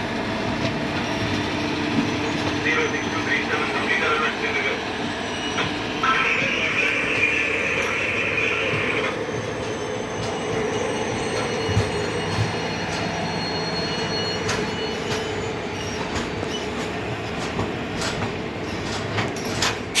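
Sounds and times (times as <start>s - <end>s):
passenger train rumbling: 0.0s - 20.0s
wheels clanking over rail joints: 0.4s - 20.0s
high wheel squeal: 1.0s - 17.2s.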